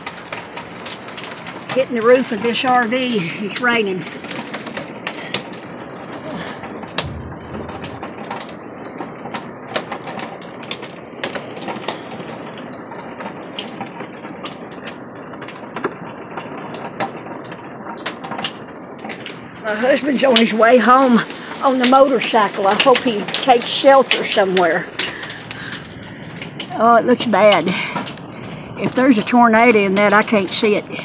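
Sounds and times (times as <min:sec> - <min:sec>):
hail and rain drumming on roof: 0:00.0 - 0:31.0.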